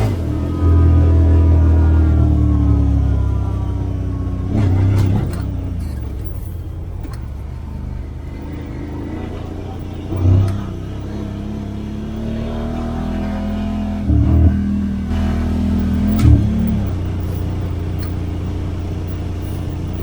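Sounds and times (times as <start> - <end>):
utility vehicle engine revving: 0.0 - 20.0.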